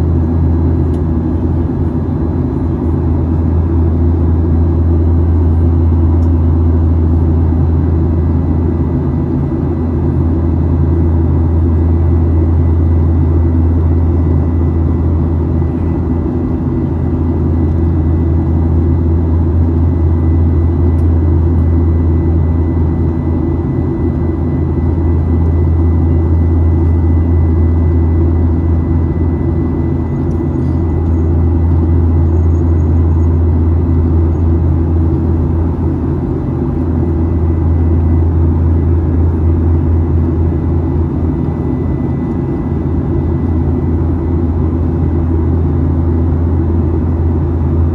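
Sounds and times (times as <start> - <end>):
low rumble of jet engines: 0.0 - 47.9
thin steady whine: 0.0 - 47.9.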